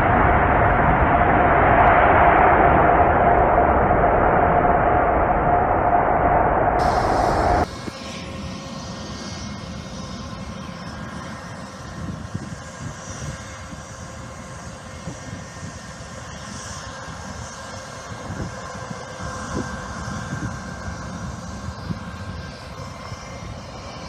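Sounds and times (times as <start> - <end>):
airplane engines running: 0.0 - 24.0.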